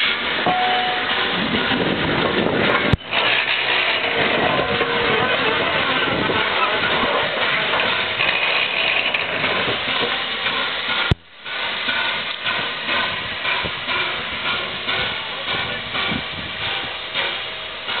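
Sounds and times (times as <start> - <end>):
steam locomotive hissing: 0.0 - 18.0.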